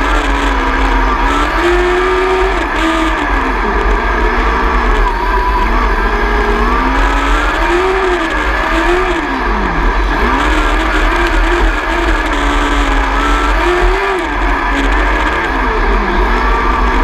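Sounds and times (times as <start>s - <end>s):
heavy rumble: 0.0s - 17.0s
racing motorcycle engine: 0.0s - 17.0s.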